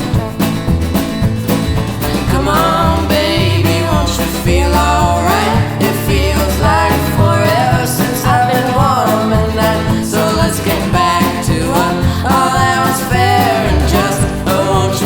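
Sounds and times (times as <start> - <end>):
country song with band: 0.0 - 15.0.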